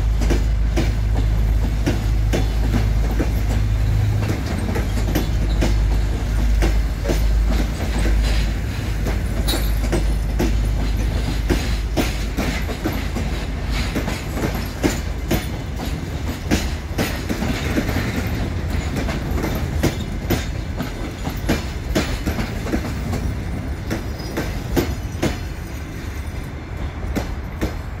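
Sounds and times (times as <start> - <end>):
train rumble: 0.0 - 28.0
wheels clattering over rail joints: 0.0 - 28.0.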